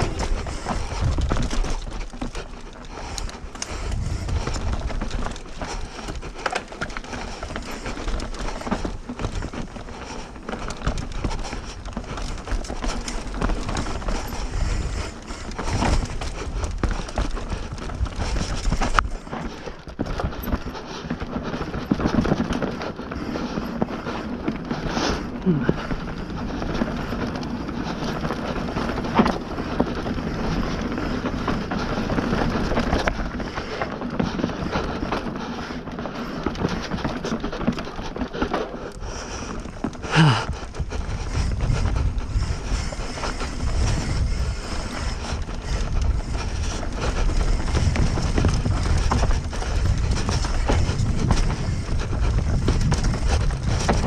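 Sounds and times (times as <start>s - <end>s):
bike frame and chain rattle: 0.0s - 54.0s
bike tyre rumble on dirt: 0.0s - 54.0s.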